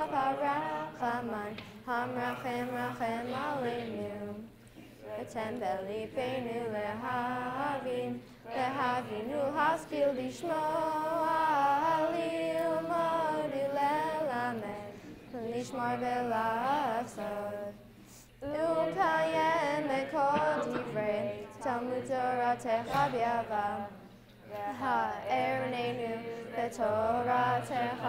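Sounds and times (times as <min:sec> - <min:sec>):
girls chanting a prayer: 0:00.0 - 0:28.0.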